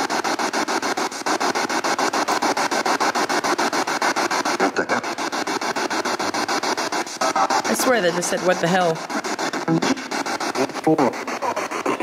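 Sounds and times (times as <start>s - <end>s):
rapidly pulsing hiss: 0.0s - 12.0s.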